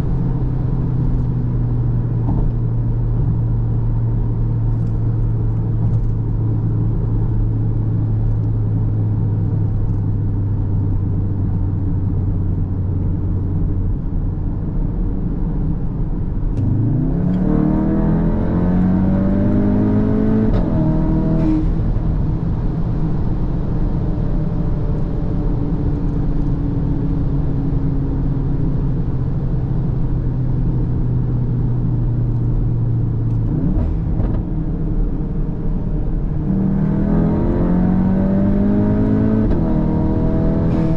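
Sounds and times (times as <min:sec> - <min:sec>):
car engine and exhaust: 0:00.0 - 0:40.9.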